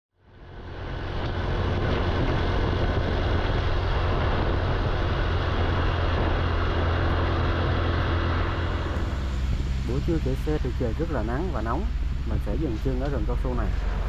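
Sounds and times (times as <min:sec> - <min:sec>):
wind rushing over microphone: 0:00.2 - 0:14.0
motorbike engine: 0:00.3 - 0:14.0.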